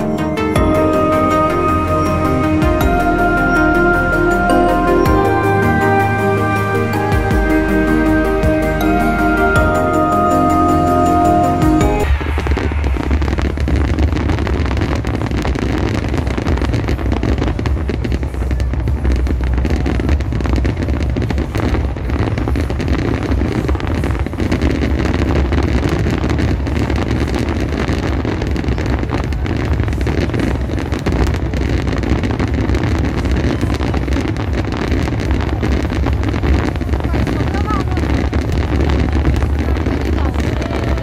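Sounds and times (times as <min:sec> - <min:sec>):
fireworks bursting: 0:00.0 - 0:41.0
fireworks crackling: 0:00.0 - 0:41.0.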